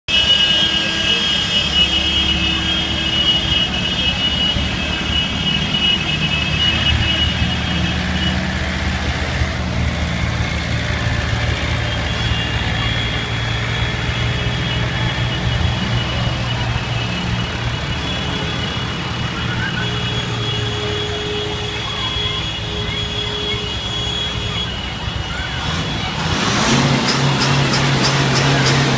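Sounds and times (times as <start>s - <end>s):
tractor engines humming: 0.1s - 28.9s.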